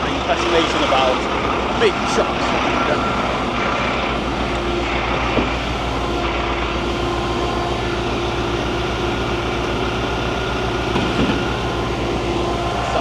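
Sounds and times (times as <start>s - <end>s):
diesel engine throbbing: 0.0s - 13.0s.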